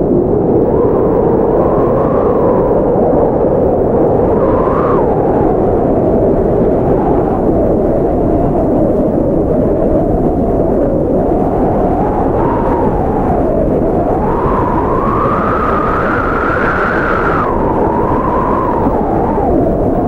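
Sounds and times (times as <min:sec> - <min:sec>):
howling blizzard wind: 0:00.0 - 0:20.0.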